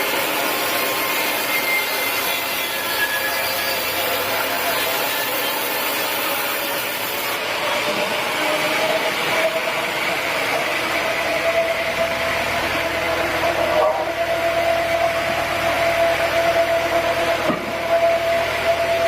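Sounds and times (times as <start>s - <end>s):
saw cutting wood: 0.0s - 19.0s.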